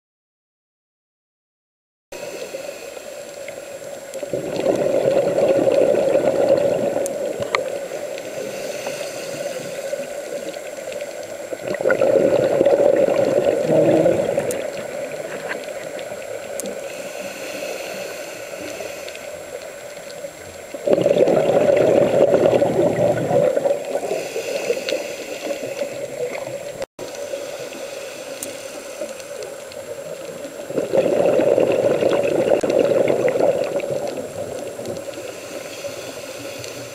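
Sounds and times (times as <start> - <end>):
quiet steady hiss: 2.2 - 36.9
underwater breath bubbling: 2.2 - 36.9.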